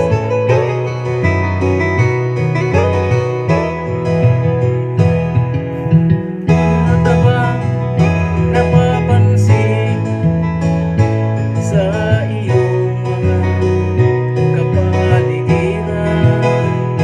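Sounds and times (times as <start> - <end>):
person singing: 0.0 - 1.6, 2.5 - 17.0.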